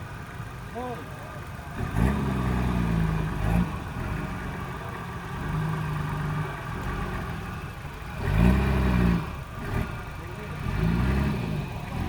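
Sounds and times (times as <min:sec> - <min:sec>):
race vehicle engine revving: 0:01.7 - 0:12.0.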